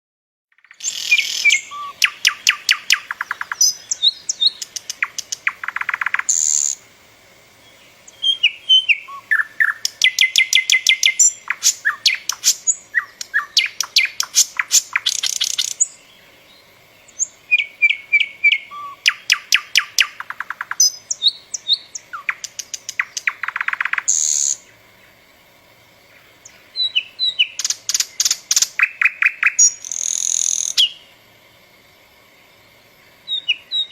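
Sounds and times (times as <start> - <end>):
songbird singing trills: 0.5 - 6.9, 7.5 - 31.7, 32.5 - 33.9.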